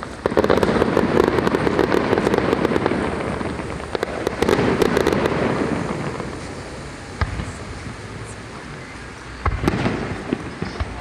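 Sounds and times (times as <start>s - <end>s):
sharp firework bang: 0.0s - 8.4s, 9.4s - 11.0s
fireworks crackling: 0.0s - 11.0s.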